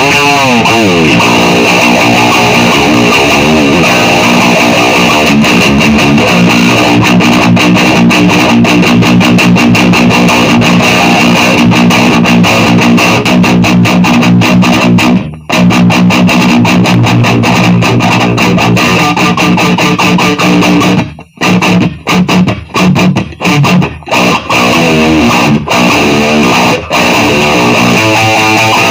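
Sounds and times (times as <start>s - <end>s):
distorted electric guitar riff: 0.0s - 28.9s.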